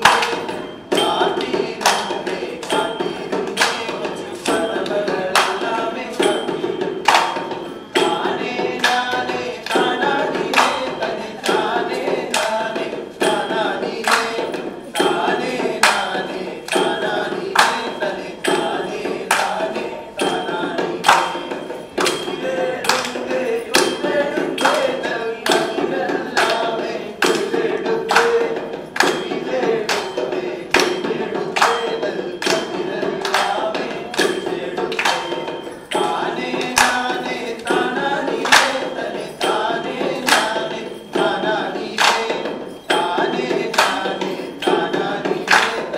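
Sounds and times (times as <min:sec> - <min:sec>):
percussion beat: 0:00.0 - 0:45.9
person singing: 0:07.9 - 0:45.9.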